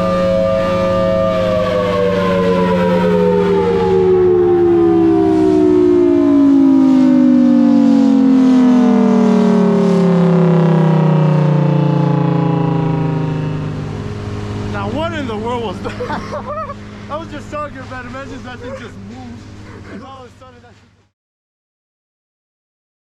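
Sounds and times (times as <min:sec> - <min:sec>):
warning siren winding down: 0:00.0 - 0:20.0.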